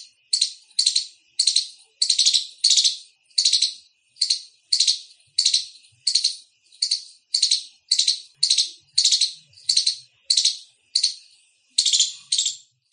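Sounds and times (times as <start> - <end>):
squirrel chirping: 0.0 - 12.9.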